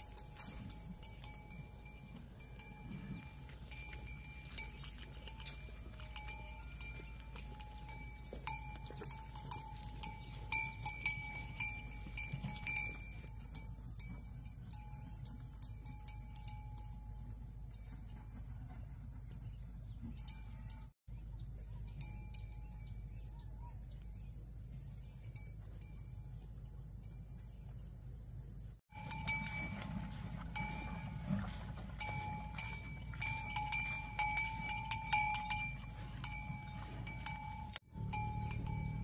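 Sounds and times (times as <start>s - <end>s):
cow bell clinking: 0.0s - 18.8s, 20.0s - 20.9s, 21.8s - 23.5s, 28.9s - 39.0s.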